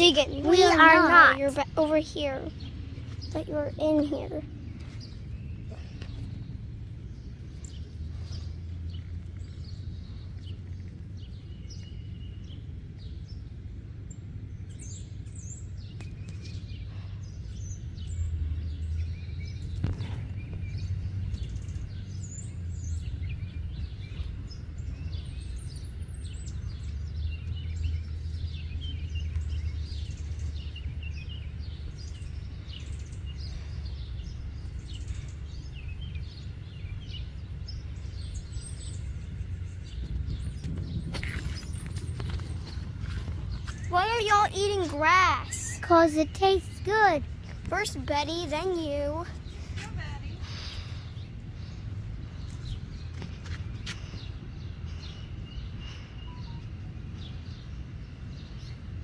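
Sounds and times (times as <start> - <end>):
birds chirping and singing: 0.0 - 59.0
steady low rumble: 0.0 - 59.0.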